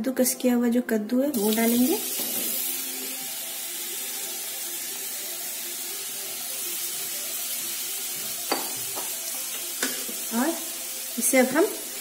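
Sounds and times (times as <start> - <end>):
vegetables sizzling in a pan: 1.3 - 12.0.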